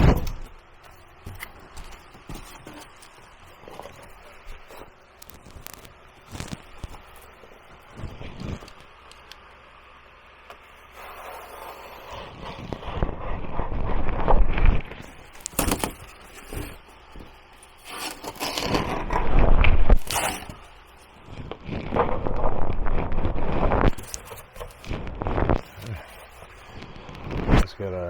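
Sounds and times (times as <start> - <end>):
insulation scraping and rustling: 0.0 - 28.0.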